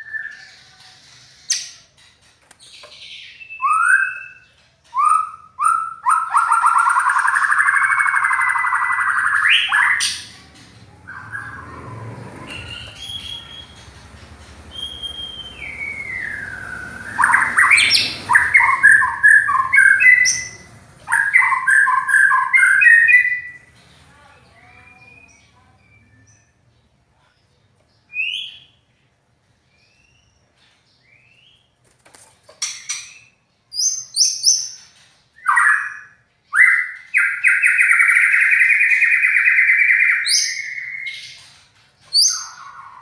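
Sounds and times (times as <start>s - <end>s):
songbird singing: 0.0s - 31.8s, 32.6s - 43.0s.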